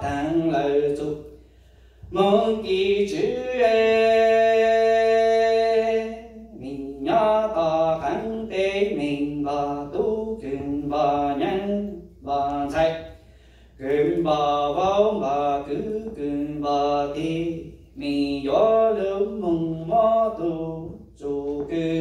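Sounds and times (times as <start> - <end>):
man chanting into a microphone: 0.0 - 1.4, 2.0 - 13.2, 13.8 - 22.0.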